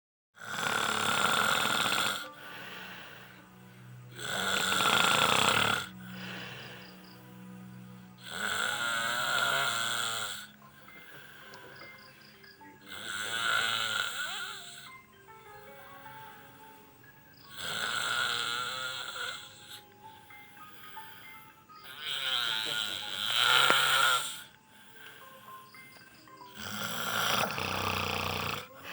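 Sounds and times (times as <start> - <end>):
person snoring heavily: 0.4 - 28.9.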